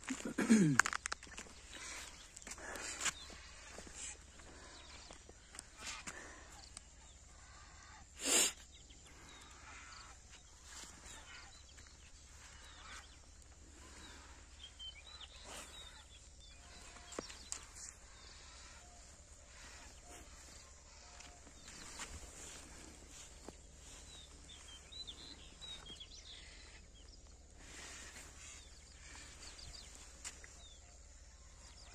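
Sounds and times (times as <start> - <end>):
faint bird chirps: 0.1 - 31.9.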